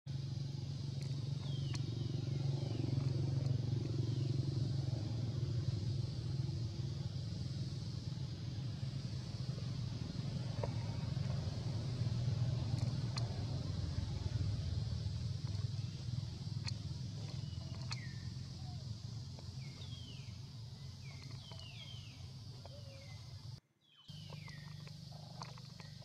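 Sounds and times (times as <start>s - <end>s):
low engine rumble: 0.1s - 26.0s.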